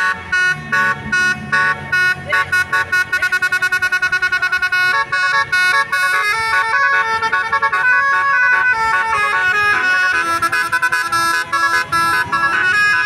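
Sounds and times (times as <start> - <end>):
musical bus horn tune: 0.0 - 13.0.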